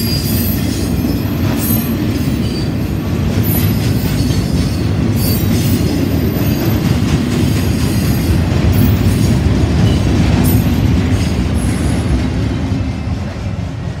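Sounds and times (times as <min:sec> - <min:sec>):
freight wheels rumbling on rail: 0:00.0 - 0:14.0.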